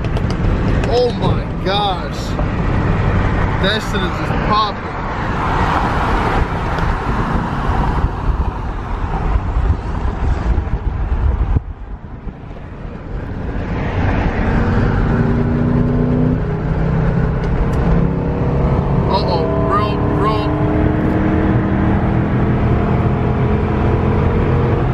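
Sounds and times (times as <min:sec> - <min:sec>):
car engine: 0:00.0 - 0:24.9
road noise: 0:00.0 - 0:24.9.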